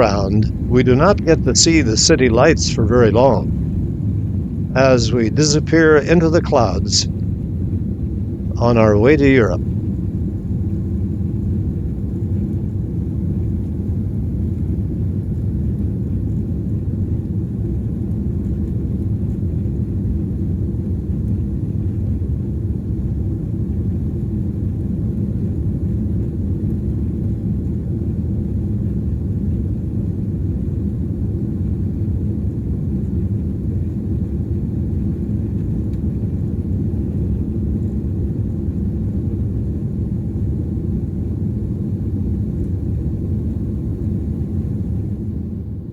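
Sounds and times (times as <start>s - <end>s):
jet engine and airflow rumble: 0.0s - 45.9s.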